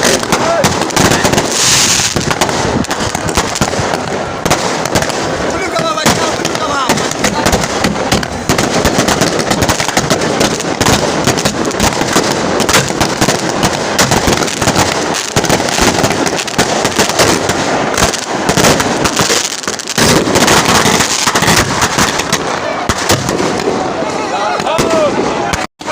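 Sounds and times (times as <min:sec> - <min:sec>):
fireworks and firecrackers banging: 0:00.0 - 0:25.9.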